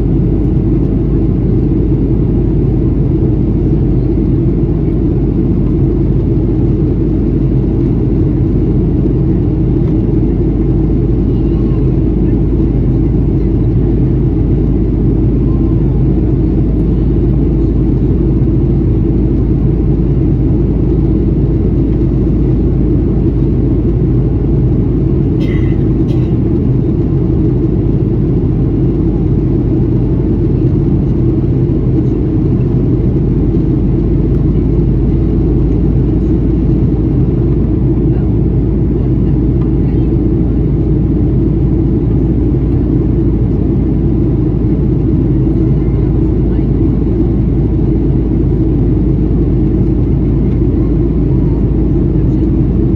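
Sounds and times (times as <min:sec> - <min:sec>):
airplane cabin drone: 0:00.0 - 0:52.9.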